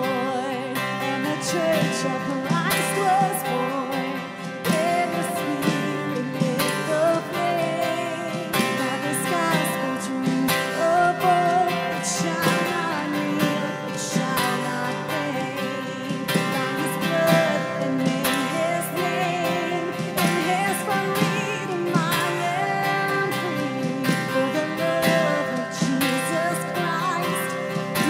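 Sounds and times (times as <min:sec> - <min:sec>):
acoustic guitar strumming: 0:00.0 - 0:28.0
woman singing: 0:00.0 - 0:28.0.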